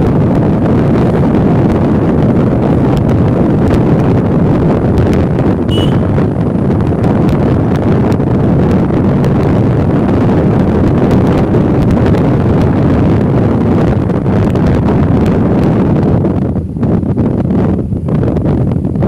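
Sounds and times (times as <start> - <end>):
motorcycle engine running: 0.0 - 16.7
wind rushing over microphone: 0.0 - 19.0.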